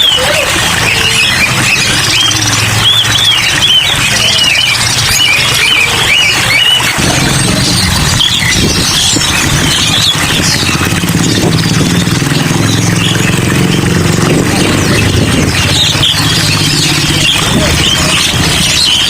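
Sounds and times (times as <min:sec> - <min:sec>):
engine humming: 0:00.0 - 0:19.0
songbirds chirping and squealing: 0:00.0 - 0:19.0.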